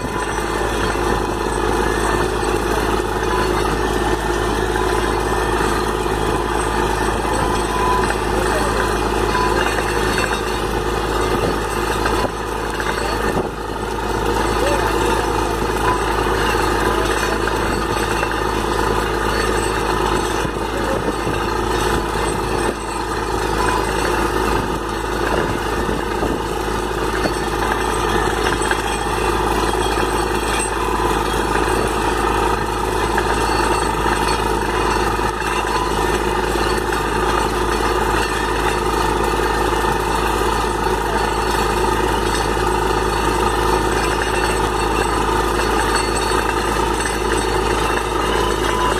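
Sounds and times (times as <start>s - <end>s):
air compressor blowing water: 0.0s - 48.9s
drilling rig engine running: 0.0s - 48.9s.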